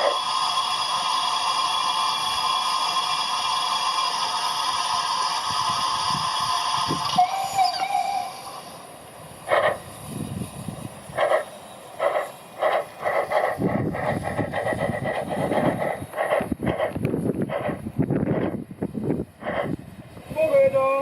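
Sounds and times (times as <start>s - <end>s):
steam locomotive exhaust chuffs: 0.0s - 20.5s.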